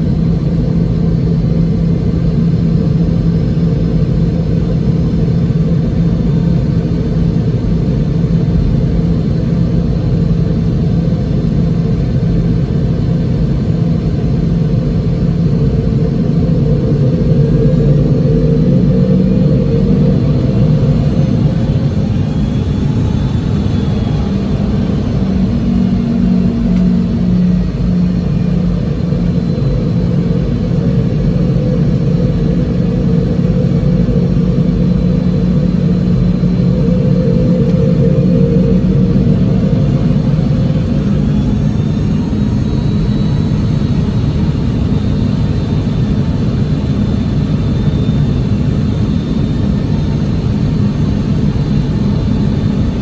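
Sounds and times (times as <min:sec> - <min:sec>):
jet engines droning in cabin: 0:00.0 - 0:53.0.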